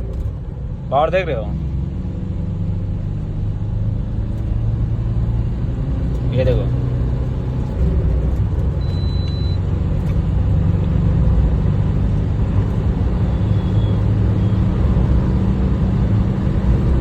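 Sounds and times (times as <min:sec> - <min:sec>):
diesel engine accelerating: 0:00.0 - 0:17.0.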